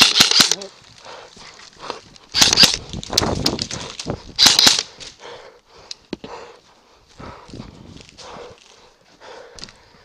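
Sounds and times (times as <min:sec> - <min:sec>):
hurried footsteps: 0:00.8 - 0:10.0.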